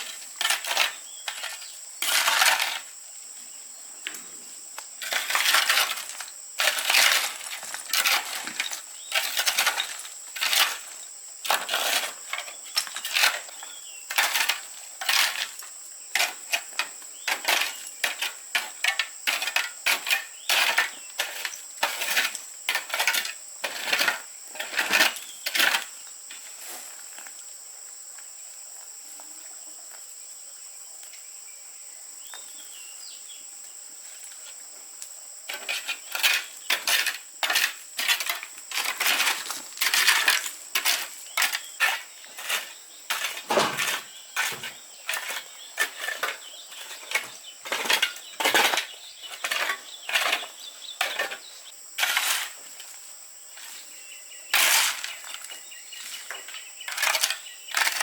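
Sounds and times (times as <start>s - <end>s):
high insect drone: 0.0s - 58.0s.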